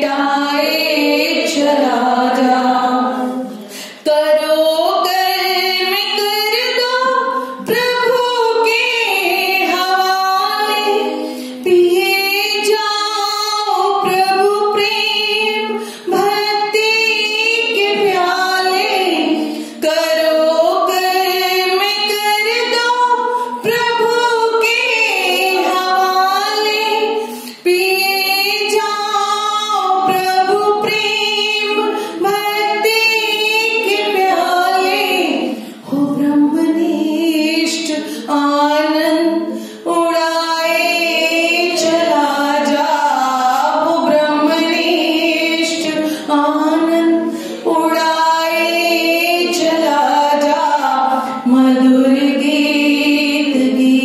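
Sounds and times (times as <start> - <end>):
woman singing: 0.0 - 54.0.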